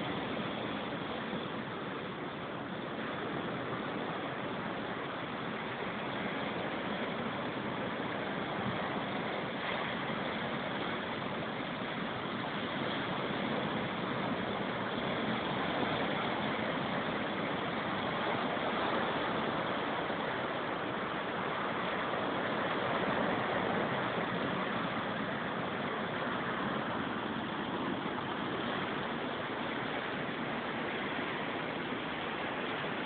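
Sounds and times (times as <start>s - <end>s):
strong wind and surf rushing: 0.0s - 33.0s.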